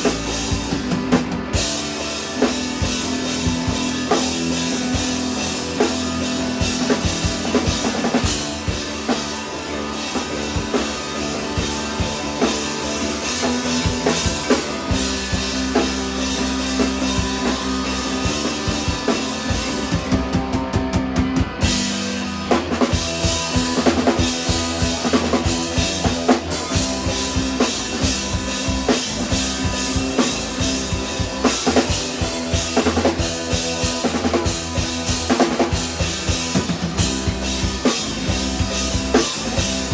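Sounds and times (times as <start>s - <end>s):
instrumental band playing live: 0.0s - 39.9s.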